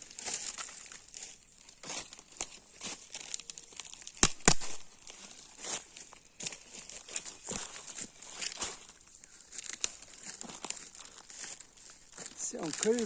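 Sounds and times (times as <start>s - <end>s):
irregular rustling and crackling: 0.0s - 13.0s.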